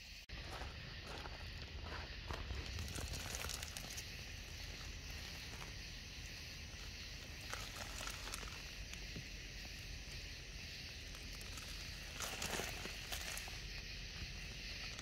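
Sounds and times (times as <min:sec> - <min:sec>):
water trickling over gravel: 0:01.6 - 0:10.2, 0:10.9 - 0:15.0.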